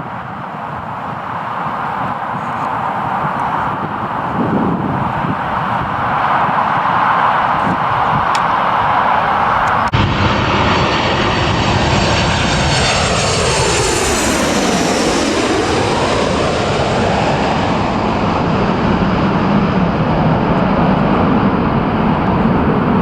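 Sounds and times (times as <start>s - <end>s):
aircraft engines roaring past: 0.0s - 23.0s.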